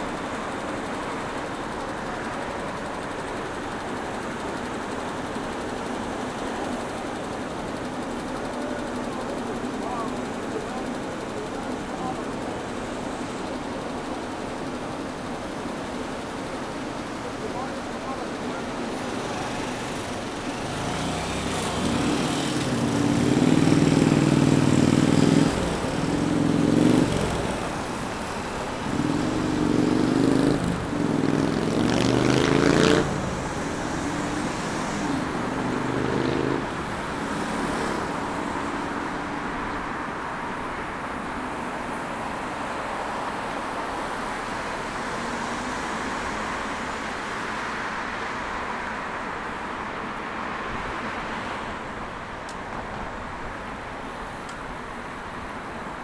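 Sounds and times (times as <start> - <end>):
steady road noise: 0.0 - 56.0
vehicle engines humming: 0.0 - 56.0.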